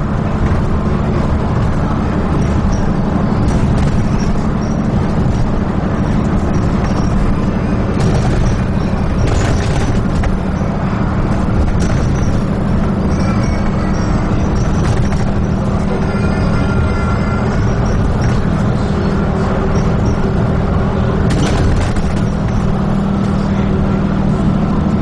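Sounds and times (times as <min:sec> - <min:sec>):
bus body rattles: 0:00.0 - 0:25.0
bus engine and road drone: 0:00.0 - 0:25.0.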